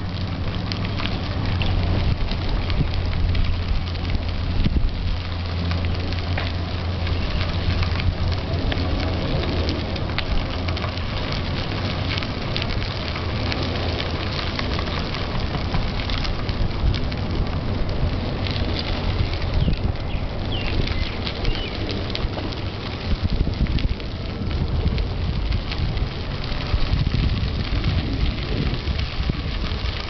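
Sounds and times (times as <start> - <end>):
bicycle tyres on gravel: 0.0 - 30.0
wind on microphone: 0.0 - 30.0.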